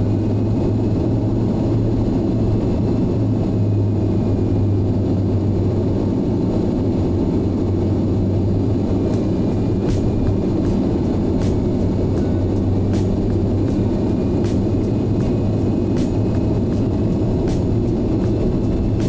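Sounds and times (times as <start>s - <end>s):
jet engine cabin drone: 0.0s - 19.0s.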